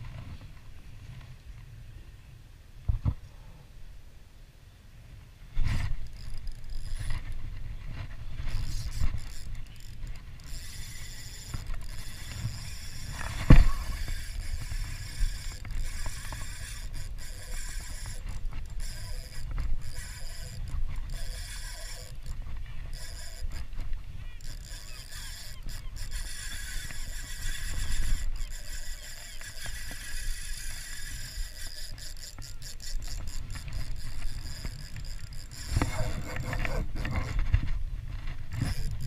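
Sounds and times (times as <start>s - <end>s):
fishing reel whirring and clicking: 5.6s - 39.0s.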